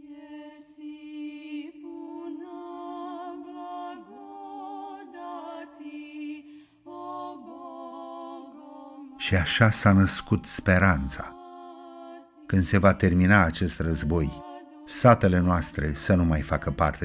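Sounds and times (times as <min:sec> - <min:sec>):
sung vocal chant: 0:00.0 - 0:17.0.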